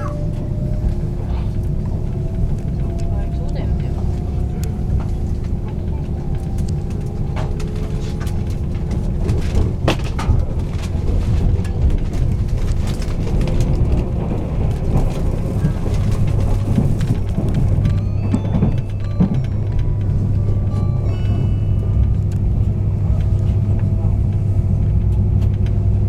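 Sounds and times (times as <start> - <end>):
train running gear rumble: 0.0 - 26.0.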